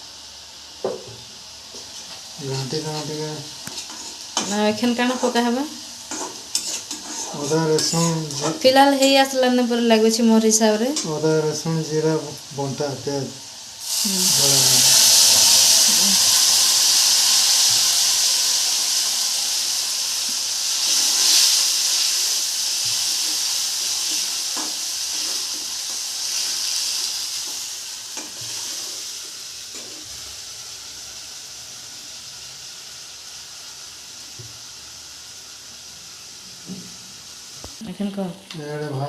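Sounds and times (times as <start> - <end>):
spices sizzling in hot oil: 0.0 - 39.0.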